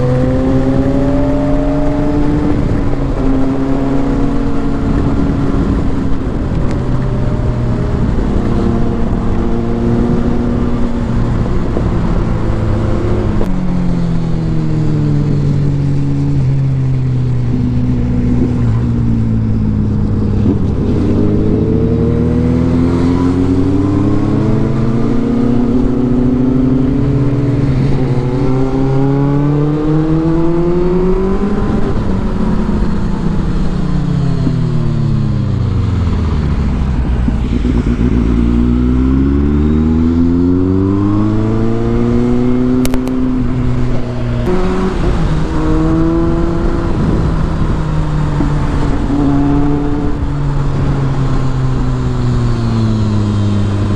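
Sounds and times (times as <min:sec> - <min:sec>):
motorcycle engine accelerating: 0:00.0 - 0:53.9
wind noise: 0:00.0 - 0:53.9.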